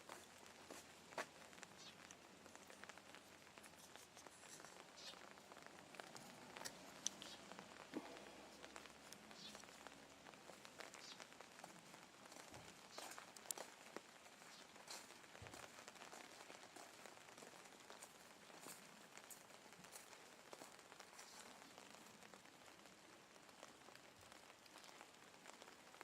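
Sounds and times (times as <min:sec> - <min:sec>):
faint rain pattering: 0:00.0 - 0:26.0
raindrops ticking: 0:00.0 - 0:26.0.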